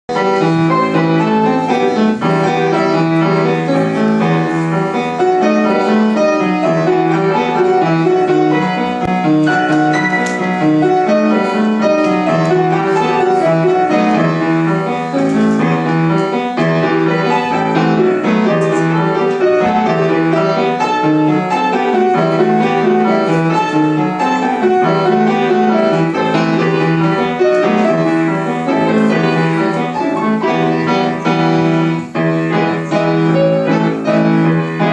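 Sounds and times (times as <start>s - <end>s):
piano music: 0.1s - 34.9s.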